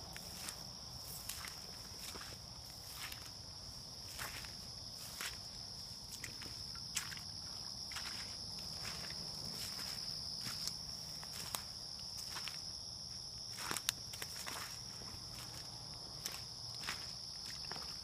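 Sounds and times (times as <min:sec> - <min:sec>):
footsteps on a trail: 0:00.0 - 0:18.0
night insects chorus: 0:00.0 - 0:18.0.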